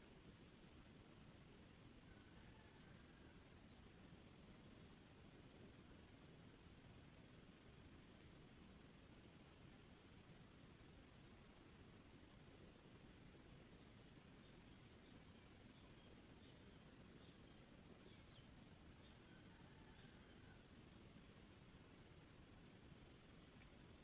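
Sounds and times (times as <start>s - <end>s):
crickets chorus: 0.0s - 24.0s.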